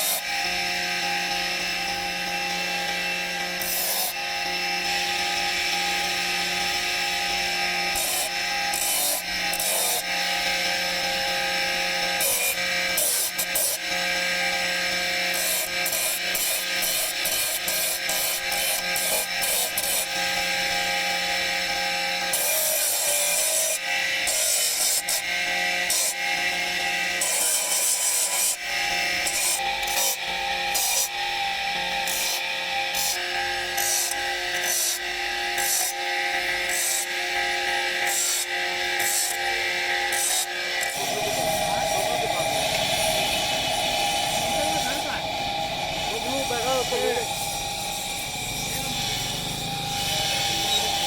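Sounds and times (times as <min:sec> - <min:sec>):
power tool motor whine: 0:00.0 - 0:51.0
tool hissing cutting stone: 0:00.0 - 0:51.0.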